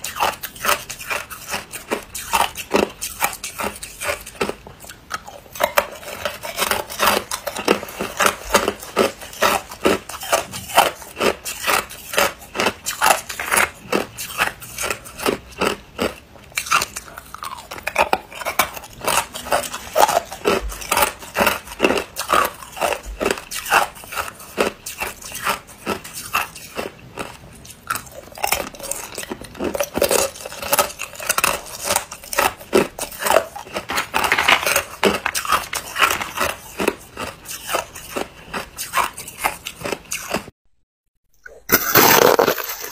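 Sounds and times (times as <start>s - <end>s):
ice cubes crunching being chewed: 0.0s - 40.5s, 41.4s - 42.9s.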